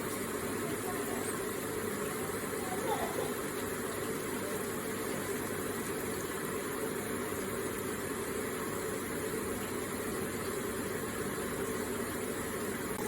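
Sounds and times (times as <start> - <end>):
water feature trickling: 0.0 - 13.0.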